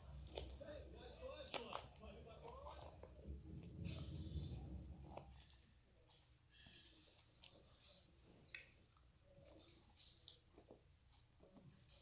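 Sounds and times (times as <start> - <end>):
chewing salad: 0.0 - 12.0.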